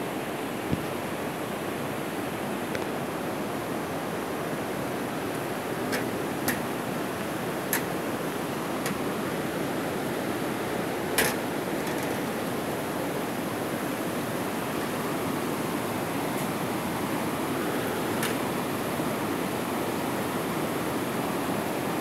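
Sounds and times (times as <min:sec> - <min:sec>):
fast-flowing water rushing: 0:00.2 - 0:22.0.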